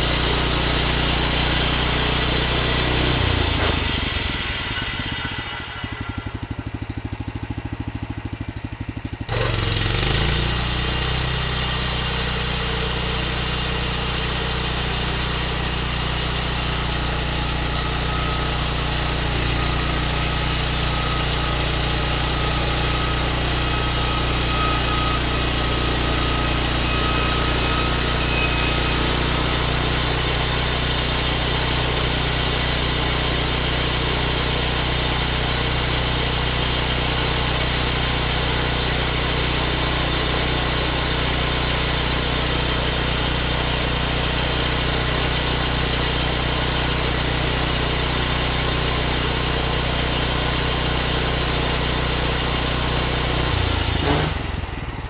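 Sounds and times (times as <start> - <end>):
band sawmill cutting log: 0.0 - 6.8, 9.3 - 55.0.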